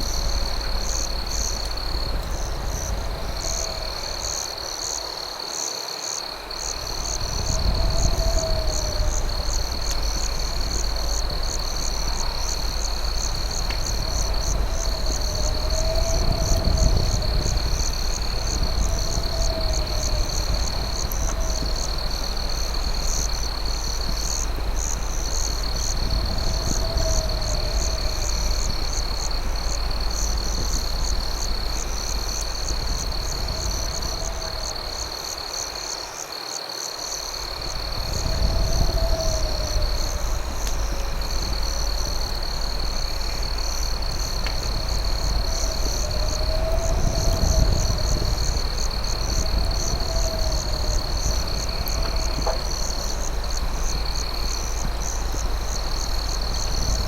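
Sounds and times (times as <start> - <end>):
steady low rumble: 0.0 - 4.9, 6.6 - 35.6, 37.4 - 57.0
crickets trilling and chirping: 0.0 - 57.0.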